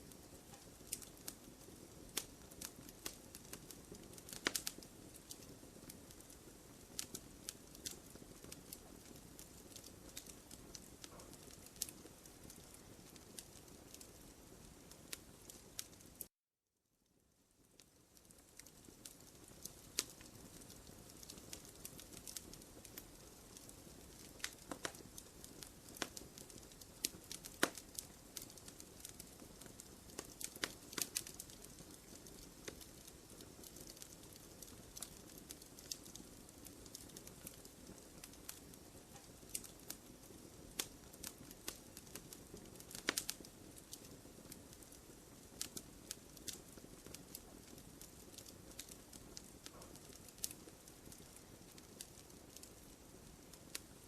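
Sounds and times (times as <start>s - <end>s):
soft steady hiss: 0.0s - 16.3s, 16.9s - 54.0s
wood fire crackling and popping: 0.0s - 16.3s, 17.6s - 54.0s.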